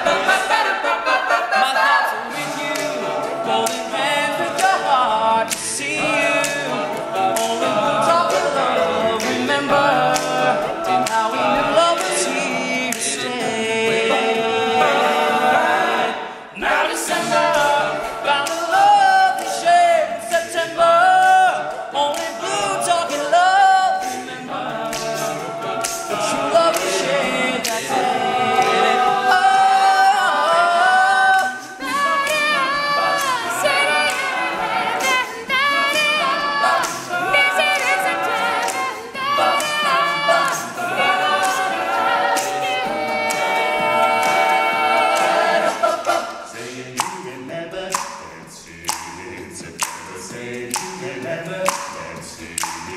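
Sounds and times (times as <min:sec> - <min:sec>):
male a cappella group singing: 0:00.0 - 0:52.9
sharp percussive ticks: 0:02.2 - 0:15.4, 0:16.6 - 0:52.9.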